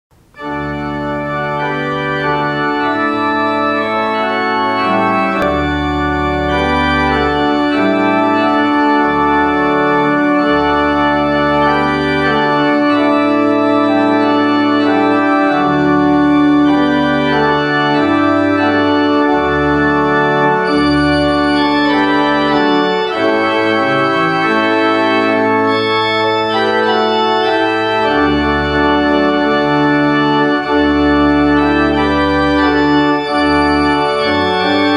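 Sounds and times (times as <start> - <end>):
organ chords: 0.1 - 34.9
deep organ bass notes: 0.2 - 34.9.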